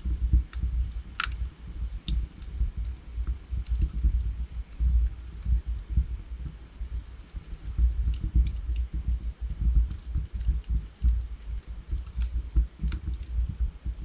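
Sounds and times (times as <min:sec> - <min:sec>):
logs crackling and popping: 0:00.0 - 0:14.0
rumble of fire flames: 0:00.0 - 0:14.0.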